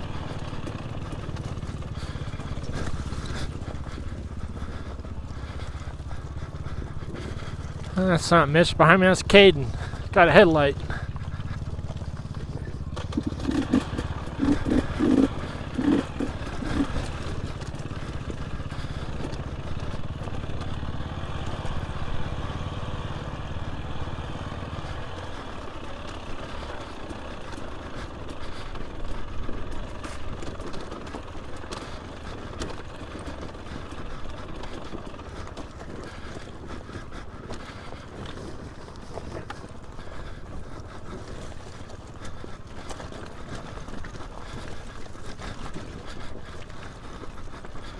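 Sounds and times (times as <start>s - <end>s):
dirt bike engine running: 0.0s - 47.9s.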